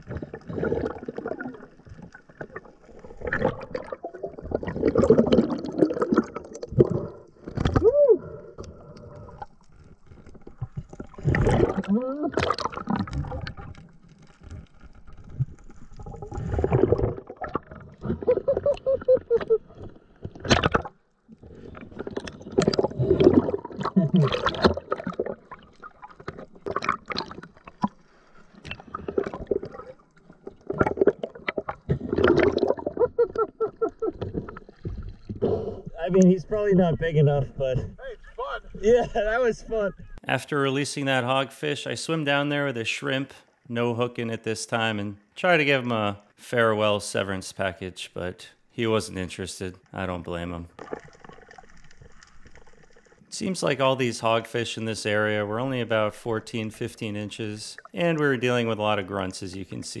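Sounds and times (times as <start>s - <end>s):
water gurgling and sloshing: 0.0s - 40.2s, 49.8s - 60.0s.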